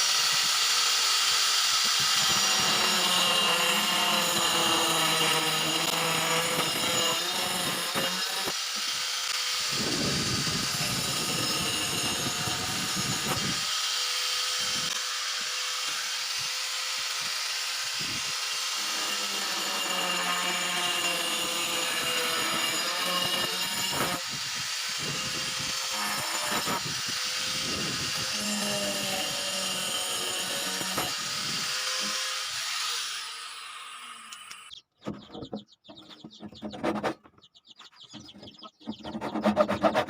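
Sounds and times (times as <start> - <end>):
small power tool whirring: 0.0 - 36.3.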